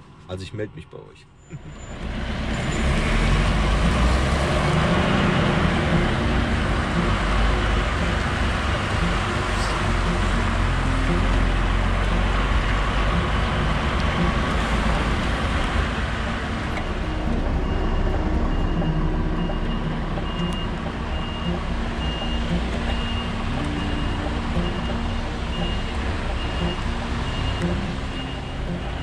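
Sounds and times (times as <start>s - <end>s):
reversing beeper: 1.4s - 29.0s
truck diesel engine running: 1.5s - 29.0s.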